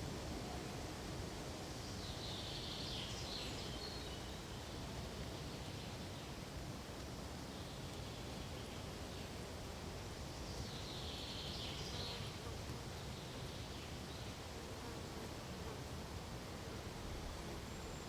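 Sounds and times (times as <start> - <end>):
wind through pine needles: 0.0 - 14.8.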